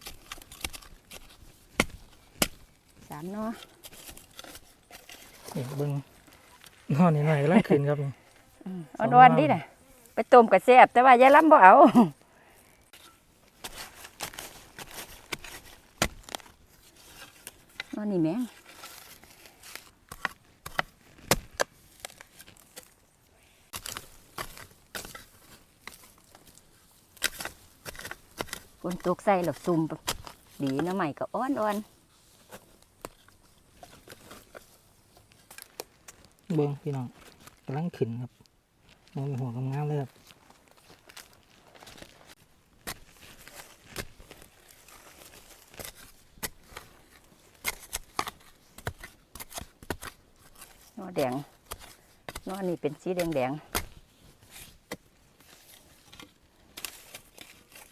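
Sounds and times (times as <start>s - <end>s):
dry leaves and twigs snapping: 0.0s - 6.9s, 12.6s - 23.1s, 23.7s - 31.8s, 32.4s - 57.9s.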